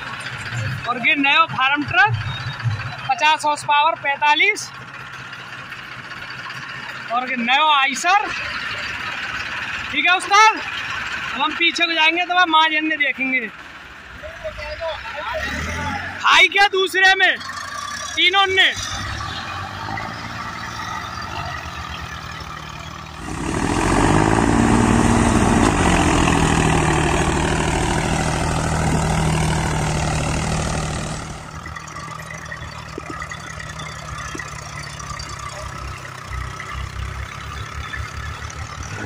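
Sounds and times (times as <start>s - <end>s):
tractor diesel engines running: 0.0s - 39.0s.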